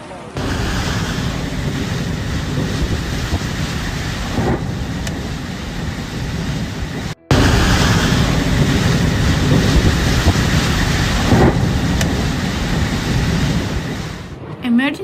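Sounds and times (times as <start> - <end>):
heavy rain: 0.0 - 14.6
wind buffeting microphone: 0.0 - 15.0
wind rushing: 0.4 - 14.6.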